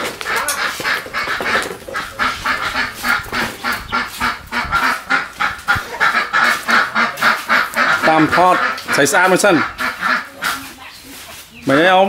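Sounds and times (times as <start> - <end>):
waterfowl calling: 0.0 - 12.0.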